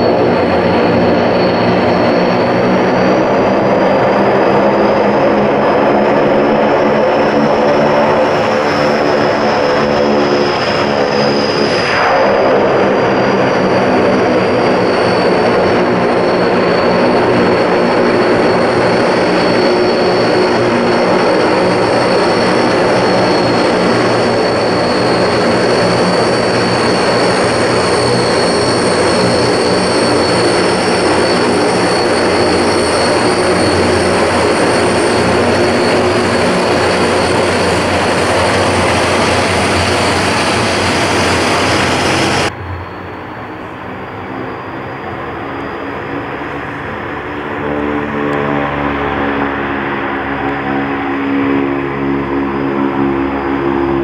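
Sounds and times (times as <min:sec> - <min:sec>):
aircraft engines whining: 0:00.0 - 0:54.0.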